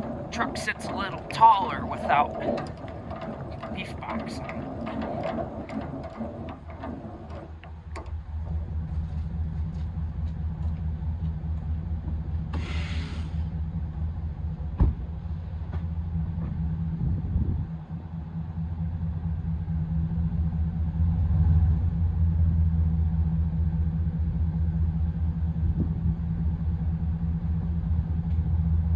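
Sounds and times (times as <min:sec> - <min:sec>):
truck engine humming: 0:00.0 - 0:28.9.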